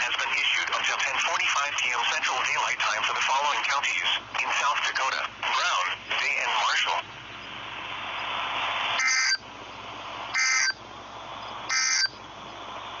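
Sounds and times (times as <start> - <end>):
steady radio hiss: 0.0 - 13.0.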